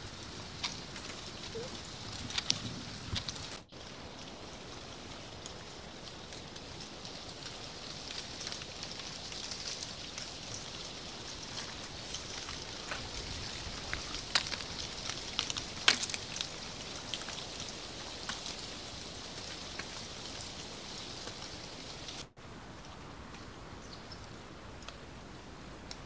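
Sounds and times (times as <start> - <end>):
pattering on dry leaves: 0.0 - 26.0.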